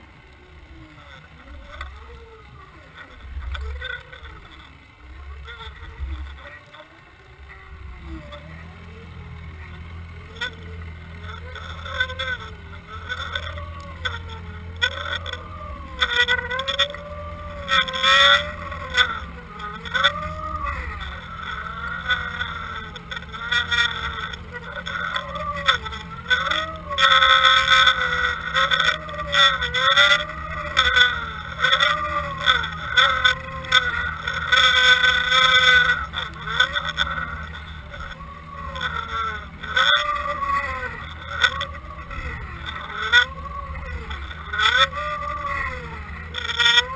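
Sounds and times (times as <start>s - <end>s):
underwater boat motor whine: 0.0s - 46.9s.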